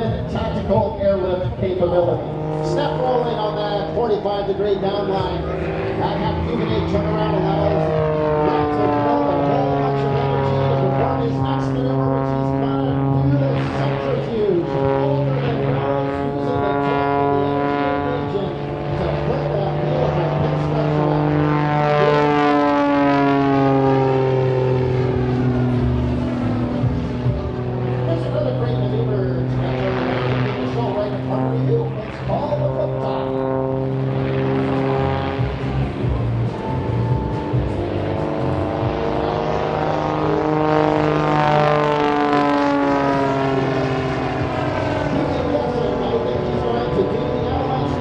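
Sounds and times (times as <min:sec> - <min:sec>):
propeller airplane engine flying past: 0:00.0 - 0:48.0.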